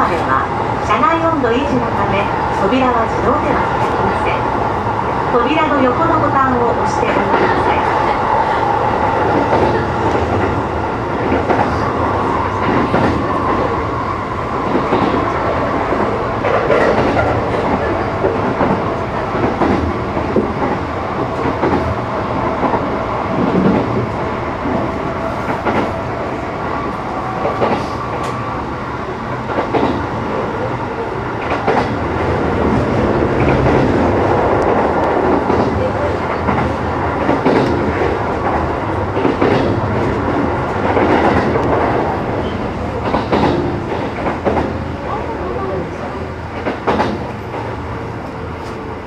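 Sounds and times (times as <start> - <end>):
rail joint clicks: 0.0 - 28.6, 29.2 - 30.6, 31.3 - 45.2, 46.5 - 48.9
train wheels rumbling on rails: 0.0 - 49.0.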